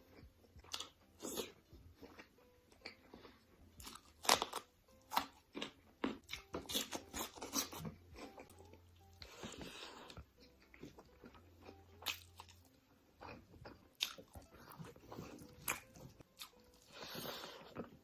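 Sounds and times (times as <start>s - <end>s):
crunchy food being chewed: 0.0s - 18.0s.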